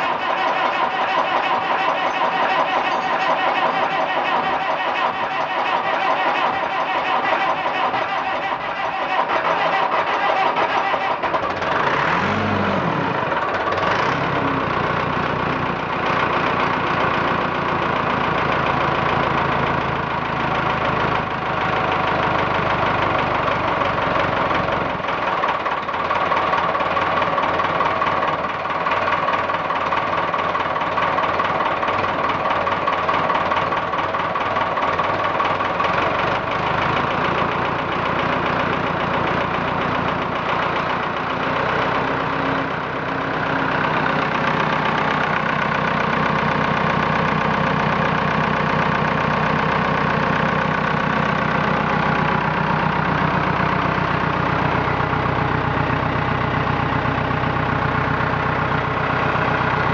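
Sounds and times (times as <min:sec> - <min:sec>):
diesel tractor engine starting: 0:00.0 - 0:59.9.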